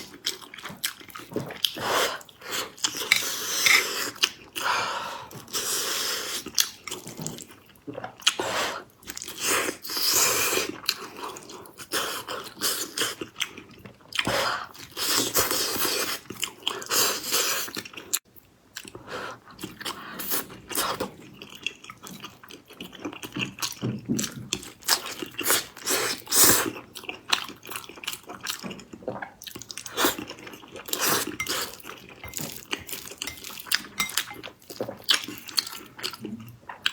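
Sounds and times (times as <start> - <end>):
person chewing sticky food: 0.0 - 36.9.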